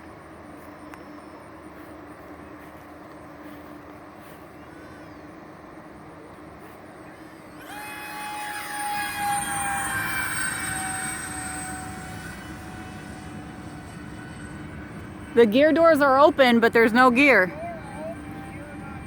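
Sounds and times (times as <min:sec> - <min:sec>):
model jet fan whine: 0:00.0 - 0:19.0.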